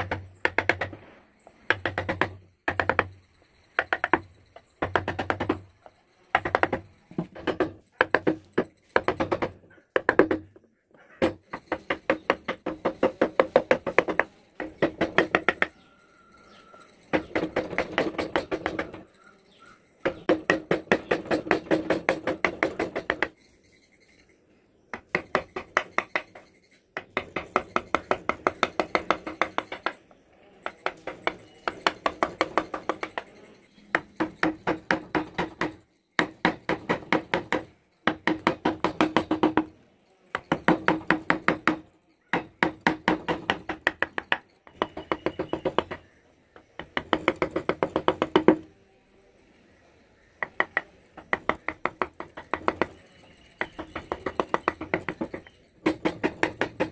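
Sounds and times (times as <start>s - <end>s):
mallet tapping wood chisel: 0.0s - 1.0s, 1.7s - 3.2s, 3.8s - 5.7s, 6.3s - 15.8s, 16.7s - 23.4s, 24.9s - 30.0s, 30.6s - 33.3s, 33.9s - 48.7s, 50.4s - 56.9s.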